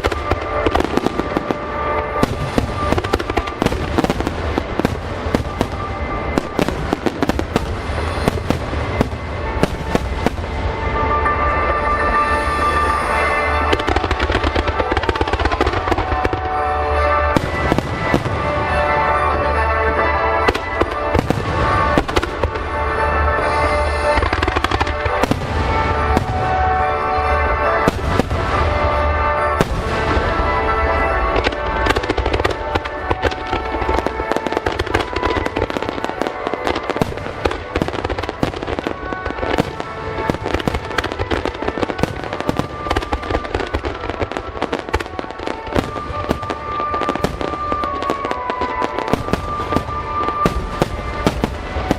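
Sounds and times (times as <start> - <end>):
fireworks bursting and crackling: 0.0 - 51.9
music playing: 0.0 - 51.9.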